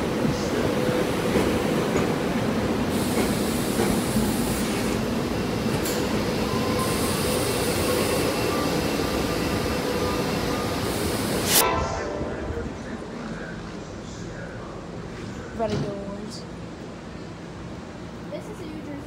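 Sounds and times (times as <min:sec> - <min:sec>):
train wheels on rail: 0:00.0 - 0:11.6, 0:12.8 - 0:19.0.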